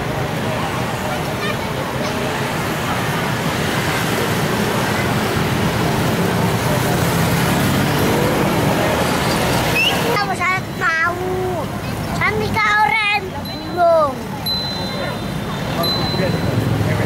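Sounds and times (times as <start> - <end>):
motorcycles driving past: 0.0 - 12.6, 14.2 - 17.0.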